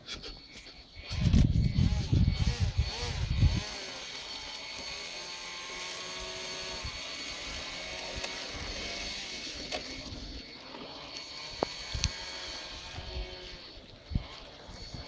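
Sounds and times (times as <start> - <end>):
model propeller motor running: 0.9 - 15.0.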